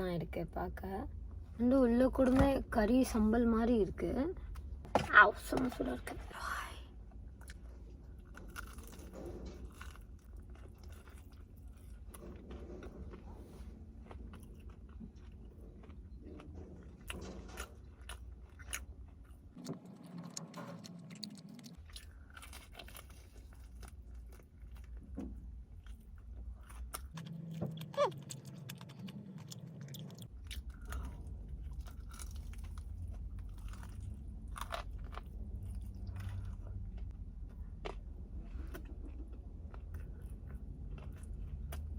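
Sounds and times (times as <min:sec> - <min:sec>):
chewing crispy fried chicken: 0:07.4 - 0:41.9.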